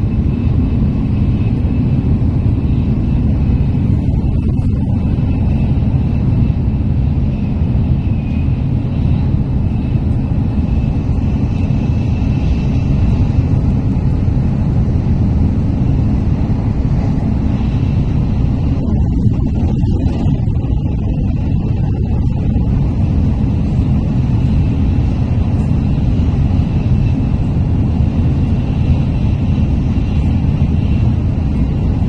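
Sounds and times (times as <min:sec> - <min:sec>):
faint high whine: 0:00.0 - 0:32.0
train interior low rumble: 0:00.0 - 0:32.0.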